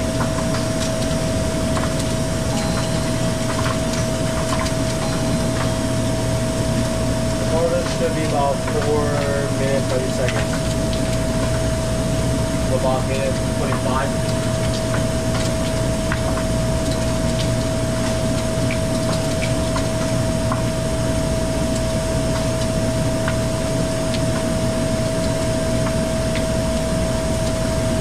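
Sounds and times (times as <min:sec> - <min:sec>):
high whine: 0:00.0 - 0:28.0
ice machine low hum: 0:00.0 - 0:28.0.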